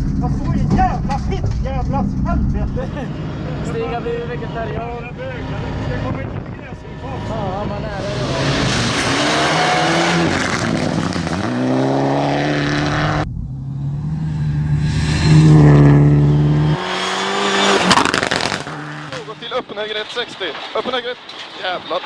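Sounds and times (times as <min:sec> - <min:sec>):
rally car engines at high revs: 0:02.0 - 0:19.7.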